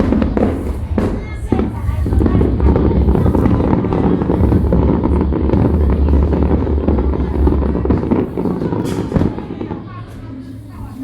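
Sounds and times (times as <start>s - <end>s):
fireworks booming: 0.0s - 10.8s
fireworks crackling: 0.0s - 11.0s.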